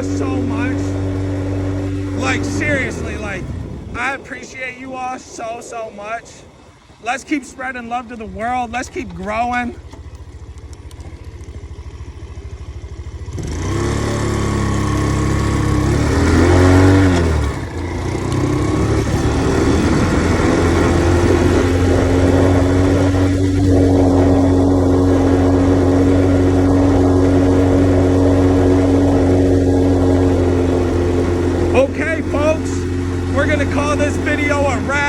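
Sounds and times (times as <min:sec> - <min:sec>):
mini motorcycle engine: 0:00.0 - 0:04.2, 0:07.9 - 0:35.0
wind rush: 0:00.0 - 0:09.7, 0:15.6 - 0:35.0.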